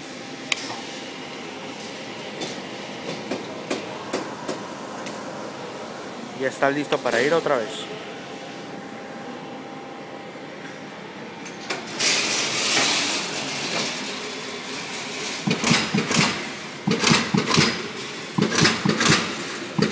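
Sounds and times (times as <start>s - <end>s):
machine hum: 0.0s - 19.9s.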